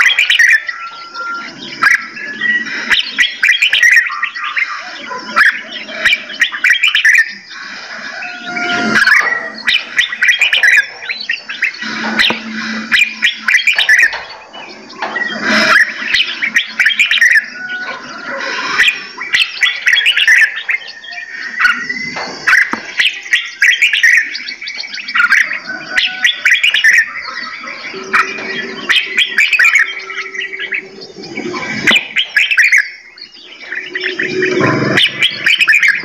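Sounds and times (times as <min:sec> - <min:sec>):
songbirds chirping and singing: 0:00.0 - 0:36.0.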